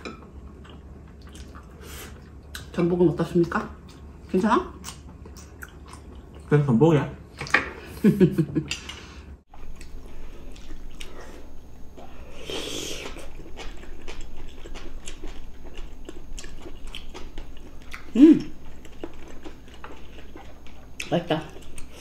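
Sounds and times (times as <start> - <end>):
people chewing and lip-smacking: 0.0 - 2.8, 3.8 - 6.5, 8.5 - 22.0.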